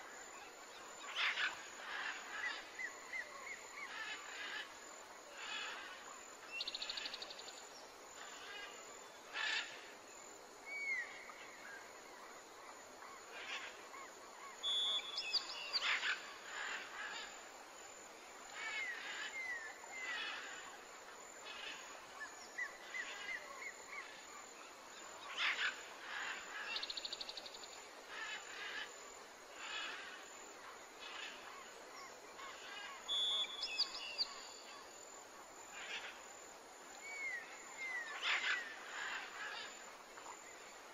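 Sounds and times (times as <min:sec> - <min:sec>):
natural background noise: 0:00.0 - 0:40.9.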